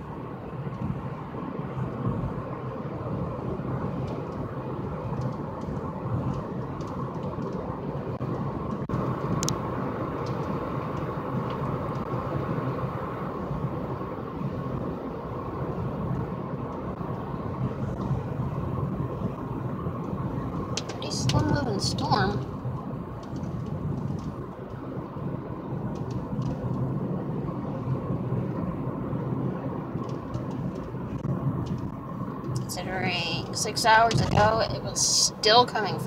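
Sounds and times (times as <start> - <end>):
low rumbling noise: 0.0 - 36.0.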